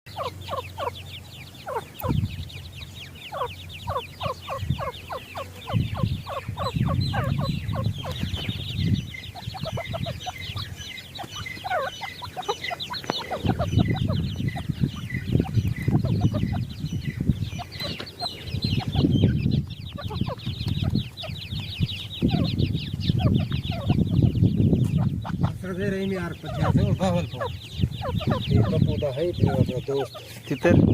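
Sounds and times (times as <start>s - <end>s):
low rumbling noise: 0.1s - 29.8s
chicks peeping: 0.1s - 30.9s
lower chirps: 0.1s - 30.9s.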